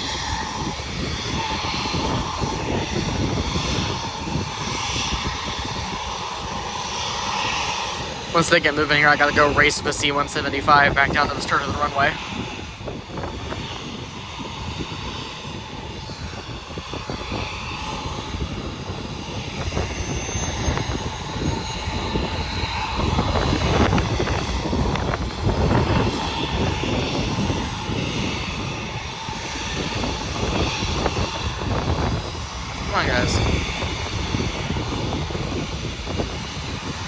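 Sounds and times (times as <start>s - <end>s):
jet engines idling whine: 0.0s - 37.0s
wind buffeting microphone: 0.0s - 37.0s.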